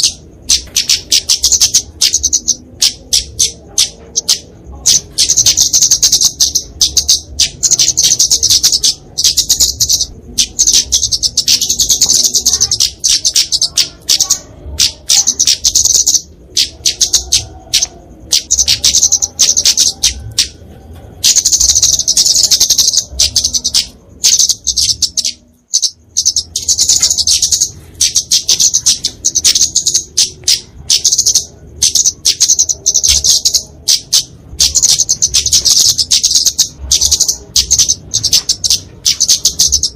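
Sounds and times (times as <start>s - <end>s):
bird high-pitched ticking chip notes: 0.0s - 39.9s.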